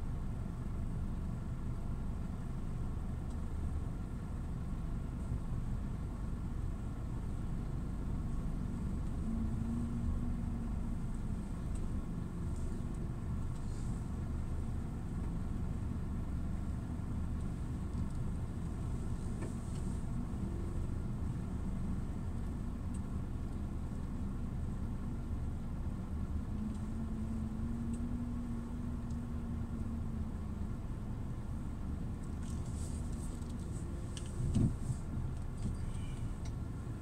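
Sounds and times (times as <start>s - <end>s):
truck diesel engine rumble: 0.0s - 37.0s.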